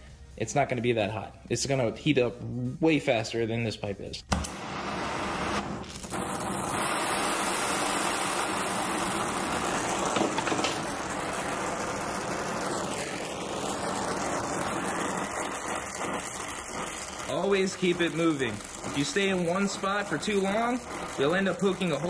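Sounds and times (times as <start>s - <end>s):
torch flame hissing: 4.3s - 22.0s.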